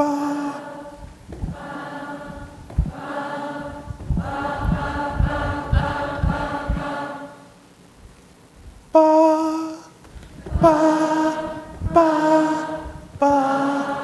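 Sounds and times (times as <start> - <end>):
solo person singing: 0.0 - 7.6, 8.9 - 14.0
crowd singing sustained notes: 0.0 - 7.8, 10.2 - 14.0.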